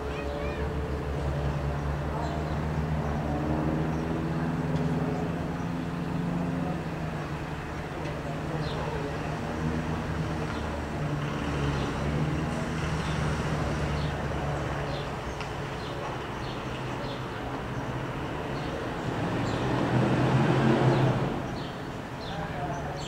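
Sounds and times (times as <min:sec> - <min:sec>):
propeller planes droning overhead: 0:00.0 - 0:23.0.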